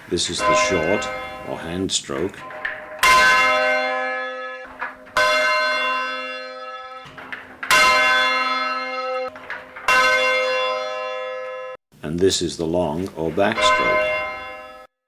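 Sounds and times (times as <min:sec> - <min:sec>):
tower bell striking: 0:00.2 - 0:11.8, 0:13.3 - 0:14.9.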